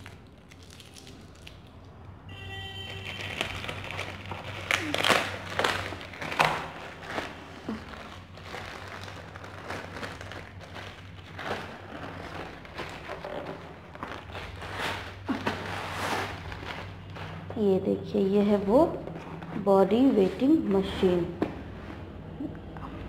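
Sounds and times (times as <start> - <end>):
plastic bag and bubble wrap crinkling: 0.0 - 23.0.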